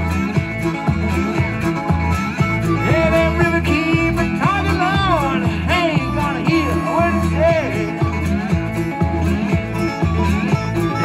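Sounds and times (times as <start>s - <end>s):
harmonica bending melody: 0.0s - 11.0s
live band playing instrumental: 0.0s - 11.0s.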